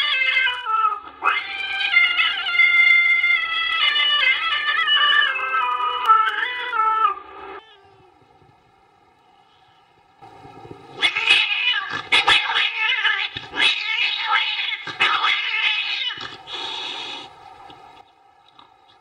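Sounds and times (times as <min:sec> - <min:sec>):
drawn-out wavering yowls: 0:00.0 - 0:08.6, 0:10.8 - 0:18.0
faint steady hum: 0:00.0 - 0:19.0.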